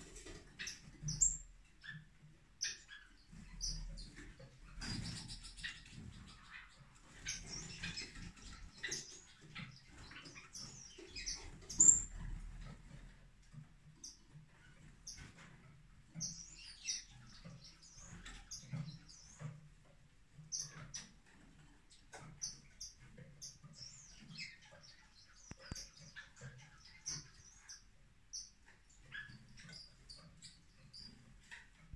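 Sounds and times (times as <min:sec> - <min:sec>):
finches chirping: 0:00.0 - 0:31.9.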